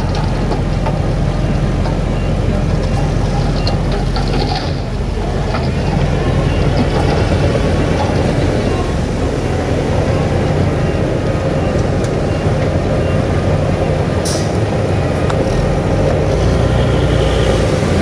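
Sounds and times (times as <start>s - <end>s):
heavy diesel machinery rumbling: 0.0s - 18.0s.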